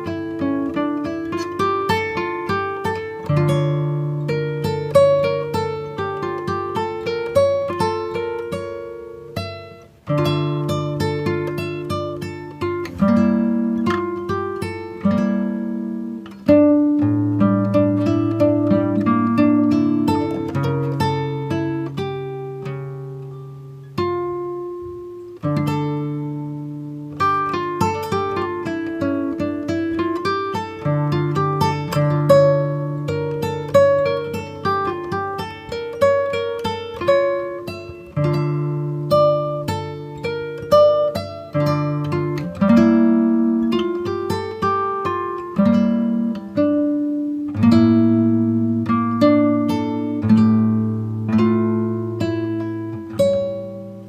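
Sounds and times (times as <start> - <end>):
plucked acoustic guitar: 0.0 - 54.0.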